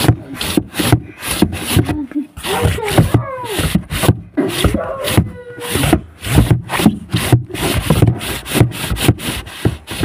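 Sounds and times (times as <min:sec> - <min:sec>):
handling noise rubbing microphone: 0:00.0 - 0:10.0.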